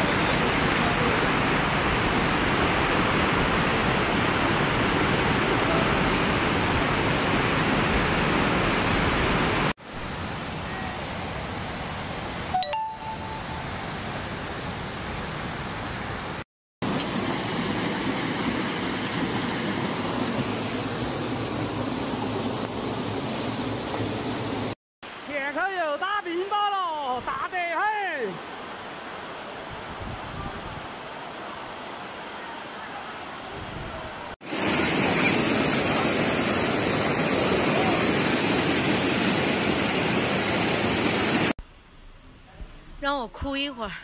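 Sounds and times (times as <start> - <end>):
flood water rushing: 0.0 - 41.6.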